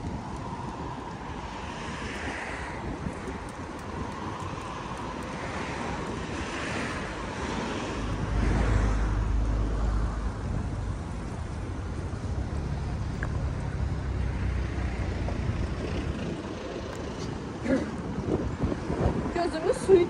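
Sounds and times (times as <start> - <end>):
passing traffic: 0.0 - 20.0
wind noise: 0.0 - 20.0.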